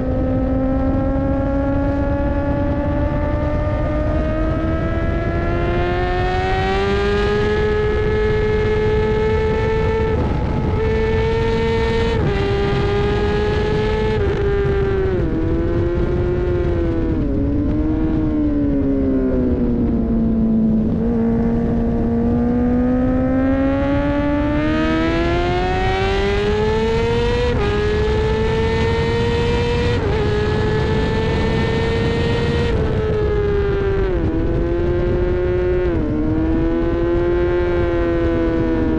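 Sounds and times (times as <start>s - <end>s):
racing motorcycle engine: 0.0s - 38.9s
wind rush: 0.0s - 38.9s.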